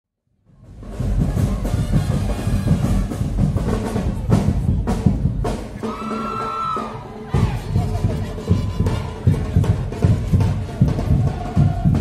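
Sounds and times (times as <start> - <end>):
bass drums pounding: 0.6 - 6.0, 7.3 - 12.0.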